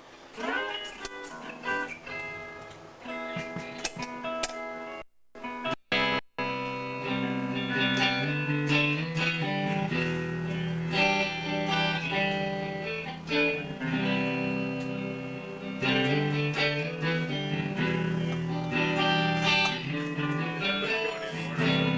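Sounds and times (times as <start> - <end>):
electric guitar chords: 0.0 - 21.9.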